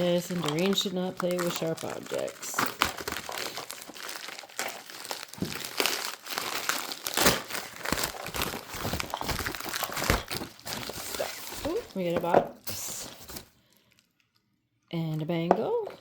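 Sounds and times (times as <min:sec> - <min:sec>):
packing material crinkling: 0:00.0 - 0:14.4.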